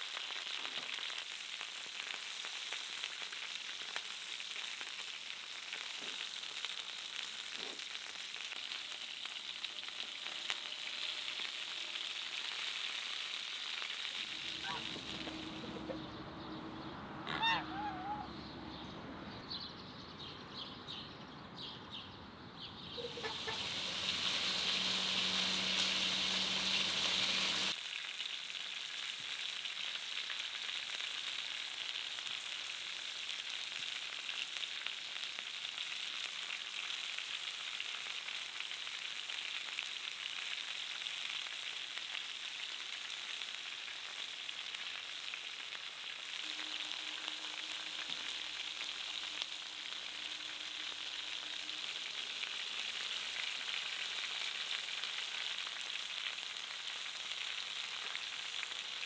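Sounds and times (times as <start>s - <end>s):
meat sizzling in a pan: 0.0s - 15.9s, 23.0s - 59.0s.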